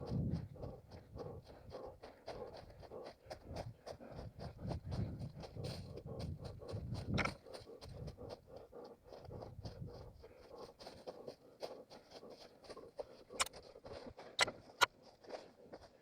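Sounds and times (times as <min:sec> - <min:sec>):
heavy panting breath: 0:00.0 - 0:16.0
running footsteps: 0:00.0 - 0:16.0.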